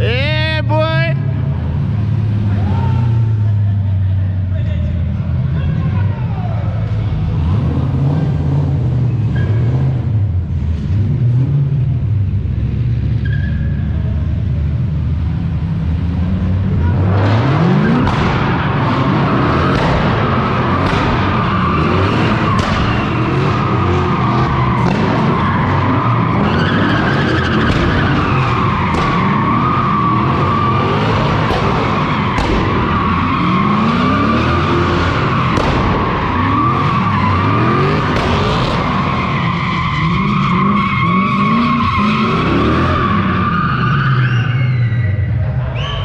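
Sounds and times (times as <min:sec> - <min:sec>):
tyres squealing and skidding: 0:00.0 - 0:10.2, 0:13.0 - 0:14.4, 0:16.4 - 0:46.0
car engine revving: 0:00.0 - 0:45.9.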